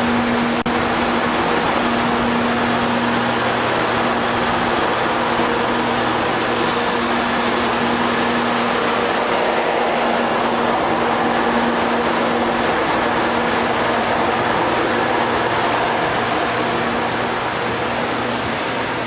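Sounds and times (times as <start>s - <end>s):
train engine running: 0.0s - 19.0s.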